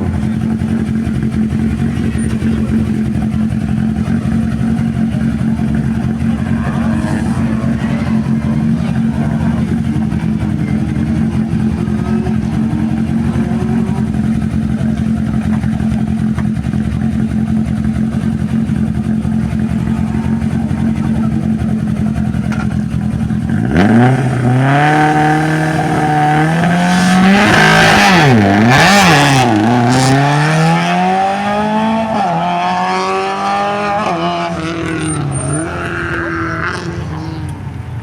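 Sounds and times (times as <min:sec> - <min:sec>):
rally car engine revving: 0:00.0 - 0:38.0.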